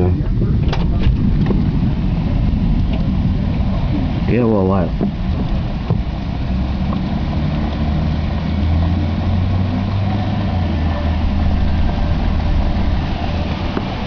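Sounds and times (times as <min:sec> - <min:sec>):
wind buffeting microphone: 0:00.0 - 0:10.1, 0:11.1 - 0:14.0
heavy rain hissing: 0:00.0 - 0:14.0.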